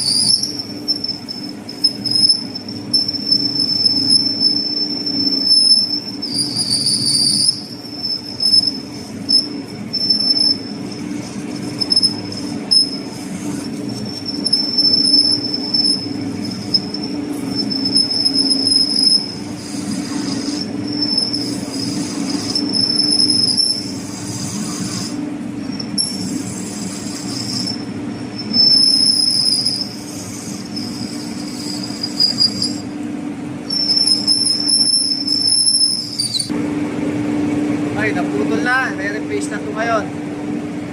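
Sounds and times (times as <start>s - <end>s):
lathe tool squealing: 0.0s - 36.5s
low machine hum: 0.0s - 40.9s.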